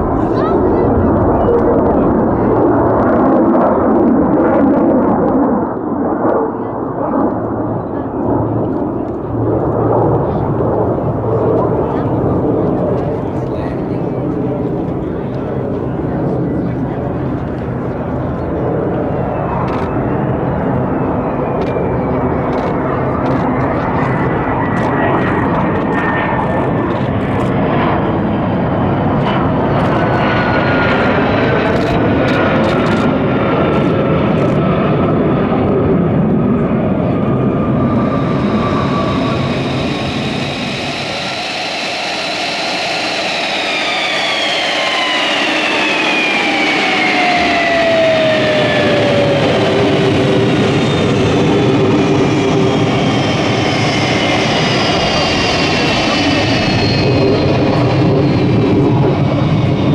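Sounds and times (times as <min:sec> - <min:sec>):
jet engine roar and whine: 0:00.0 - 0:59.9.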